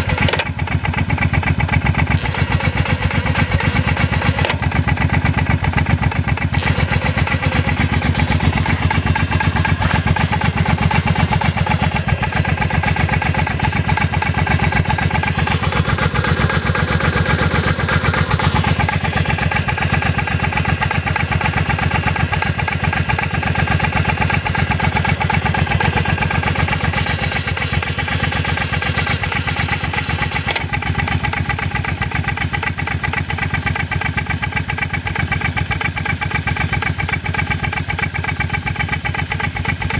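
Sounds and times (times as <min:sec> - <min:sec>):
vehicle engine idling: 0:00.0 - 0:39.9.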